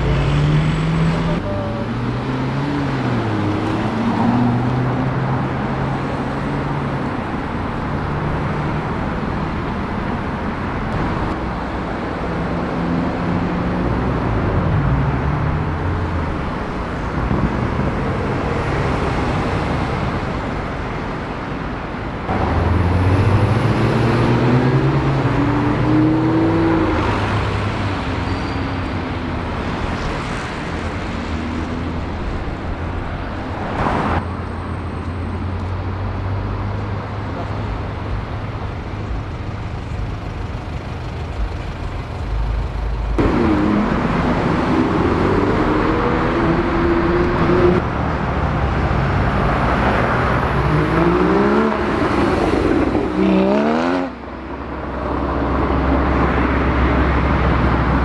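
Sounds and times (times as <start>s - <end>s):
car engines passing: 0.0s - 58.0s
road noise: 0.0s - 58.0s.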